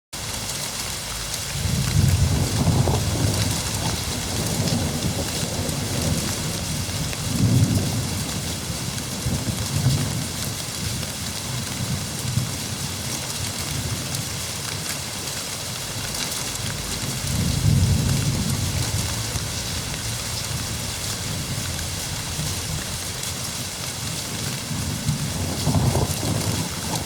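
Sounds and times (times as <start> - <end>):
steady rain hissing: 0.2 - 27.0
thunder rumbling: 1.5 - 15.2, 15.8 - 27.0.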